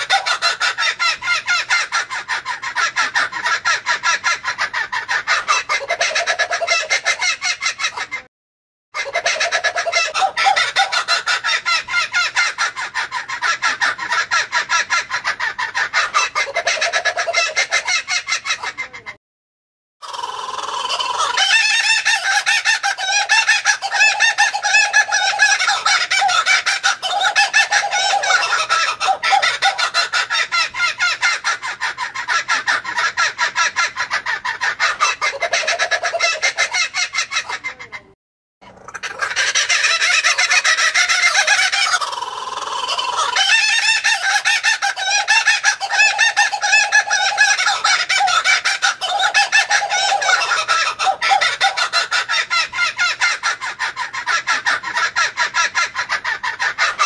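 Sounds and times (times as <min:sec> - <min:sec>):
kookaburra cackling calls: 0:00.0 - 0:08.2, 0:09.0 - 0:18.8, 0:20.0 - 0:38.0, 0:38.6 - 0:57.0.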